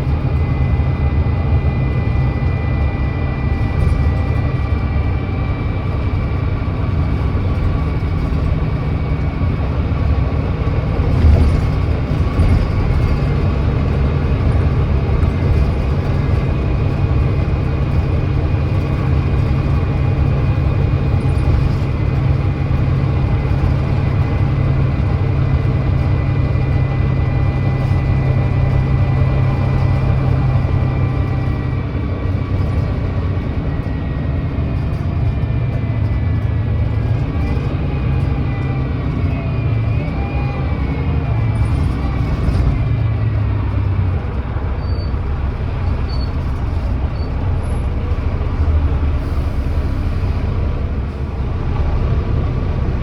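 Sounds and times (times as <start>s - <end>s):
bus diesel engine cruising: 0.0s - 53.0s
road noise: 0.0s - 53.0s.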